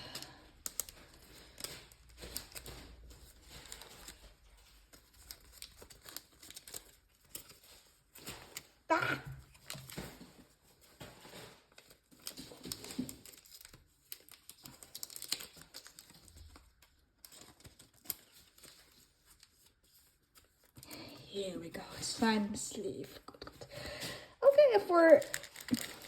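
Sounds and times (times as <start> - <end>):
plastic rustling: 0.0 - 26.0.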